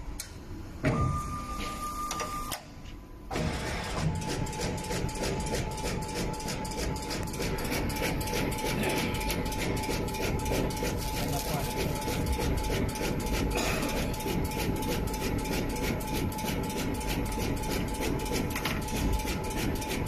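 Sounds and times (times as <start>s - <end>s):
machine whine: 3.3s - 20.0s.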